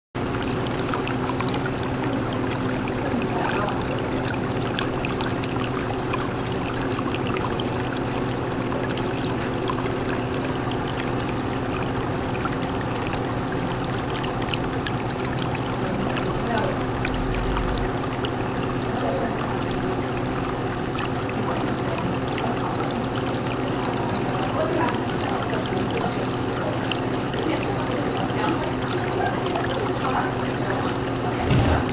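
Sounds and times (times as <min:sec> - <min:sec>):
aquarium water trickling: 0:00.2 - 0:31.9
pump hum: 0:00.2 - 0:31.9.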